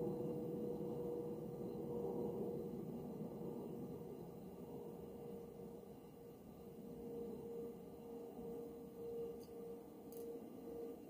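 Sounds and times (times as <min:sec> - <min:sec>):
low steady tone: 0:00.0 - 0:11.0.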